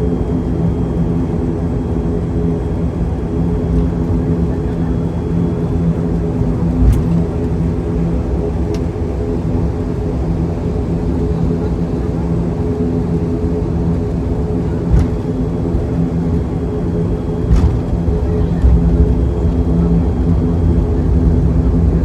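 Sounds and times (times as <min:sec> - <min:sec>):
turboprop engines droning in cabin: 0:00.0 - 0:22.0.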